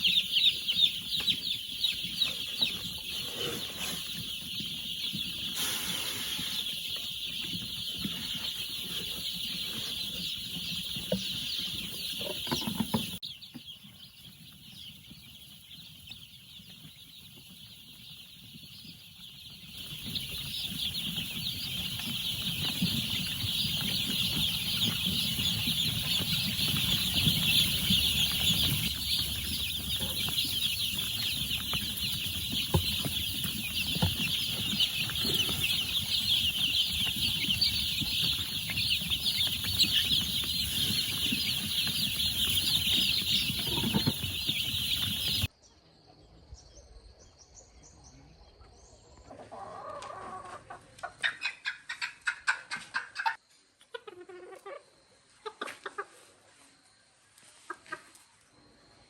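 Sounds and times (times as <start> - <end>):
chicken clucks: 0.0 - 45.5, 49.1 - 56.6, 57.4 - 58.4
chickens calling: 0.0 - 45.5, 49.2 - 56.5.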